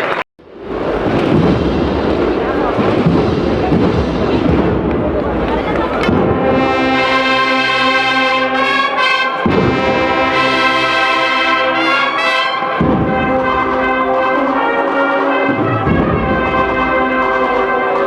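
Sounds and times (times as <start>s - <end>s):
deep drum strokes: 0.4s - 7.6s, 9.4s - 18.0s
brass band playing a march: 0.8s - 18.0s.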